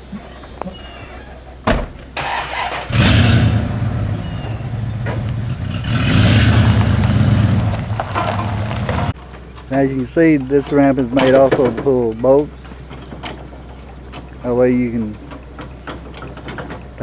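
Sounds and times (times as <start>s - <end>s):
vehicle engine starting and running: 1.6s - 17.0s.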